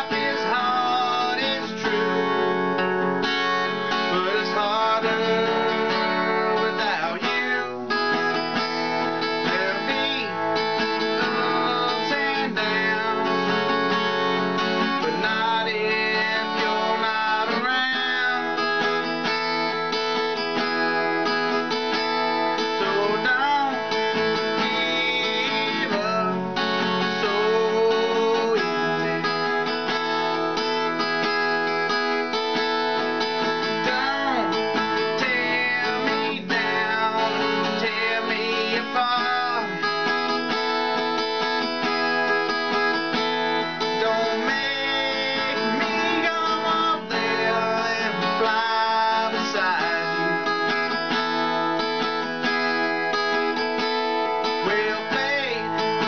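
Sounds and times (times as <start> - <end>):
man singing: 0.0 - 31.3, 32.4 - 56.0
strummed acoustic guitar: 0.0 - 56.0.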